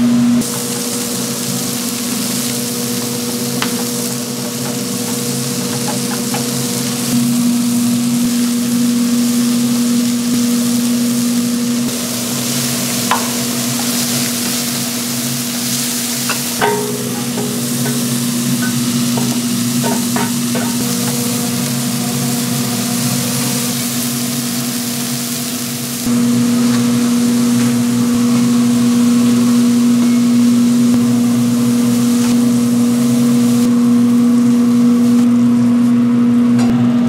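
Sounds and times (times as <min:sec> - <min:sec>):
constant low hum: 0:00.0 - 0:37.0
food sizzling on griddle: 0:00.4 - 0:36.0.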